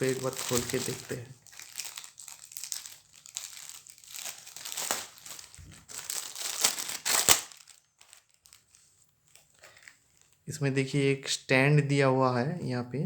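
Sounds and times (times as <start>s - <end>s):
plastic wrap crinkling: 0.0s - 10.5s.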